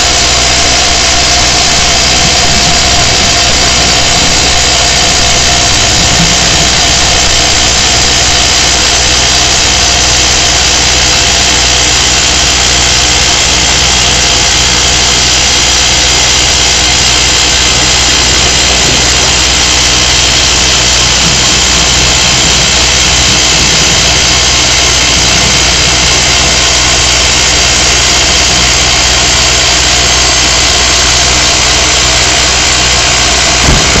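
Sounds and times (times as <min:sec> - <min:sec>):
excavator engine running: 0:00.0 - 0:34.0
hydraulic rock drill hammering: 0:00.0 - 0:34.0.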